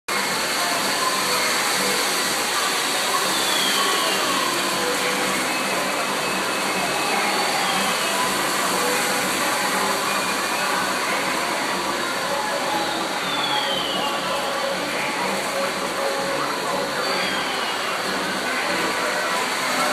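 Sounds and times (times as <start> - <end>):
steady rushing noise: 0.1 - 19.9.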